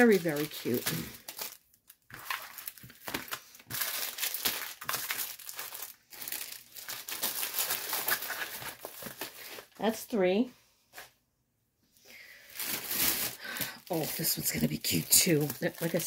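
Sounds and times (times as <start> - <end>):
plastic film crinkling: 0.0 - 9.8, 12.4 - 16.0.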